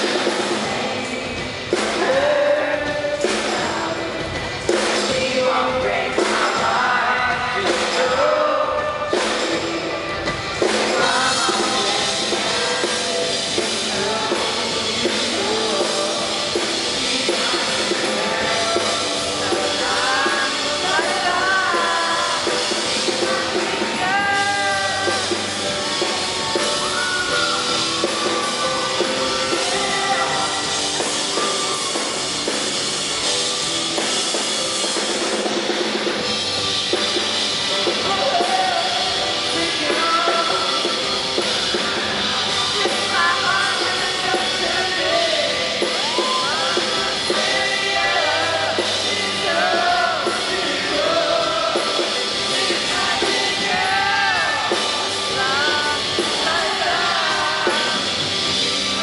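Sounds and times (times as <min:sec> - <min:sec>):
person singing lead vocals: 0:00.0 - 0:33.4, 0:37.7 - 0:59.0
drum kit: 0:00.0 - 0:59.0
live pop-rock band: 0:00.0 - 0:59.0.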